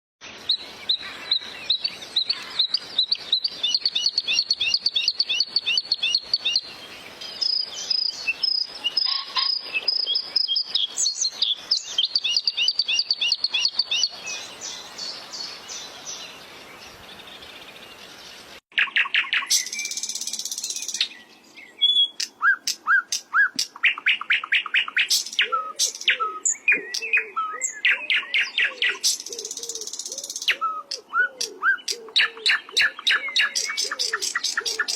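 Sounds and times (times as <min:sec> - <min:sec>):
bird singing chirps and trills: 0:00.2 - 0:34.9.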